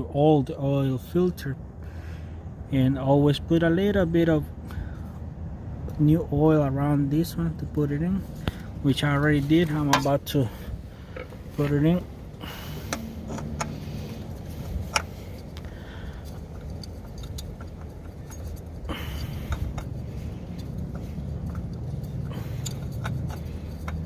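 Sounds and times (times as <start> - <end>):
steady low hum: 0.9 - 24.0
oil filter clicking and scraping: 4.7 - 24.0.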